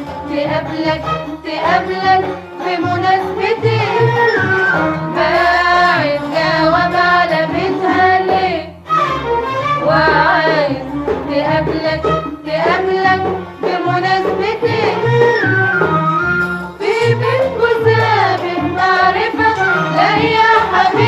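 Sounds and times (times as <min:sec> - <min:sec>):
arabic song with accompaniment: 0:00.0 - 0:21.0.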